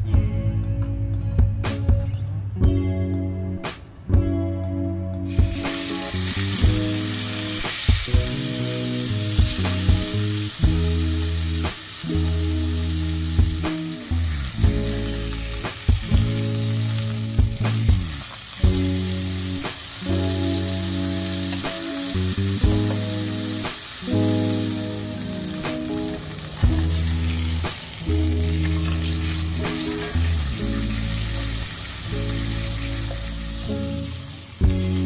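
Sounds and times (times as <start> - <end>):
background music with held chords: 0.0 - 35.0
steak sizzling in skillet: 5.3 - 35.0.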